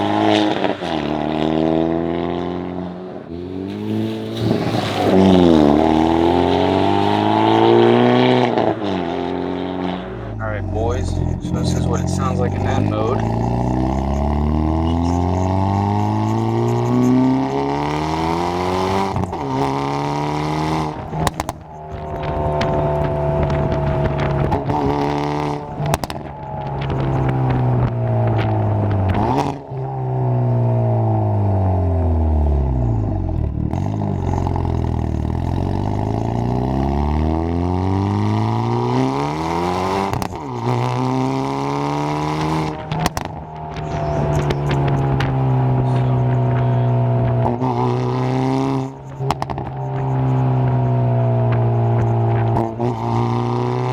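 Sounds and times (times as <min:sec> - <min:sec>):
car engine accelerating through gears: 0:00.0 - 0:53.9.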